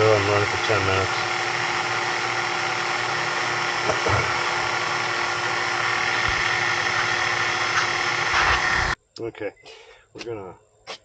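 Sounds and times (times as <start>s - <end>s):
vacuum pump humming: 0.0s - 9.0s.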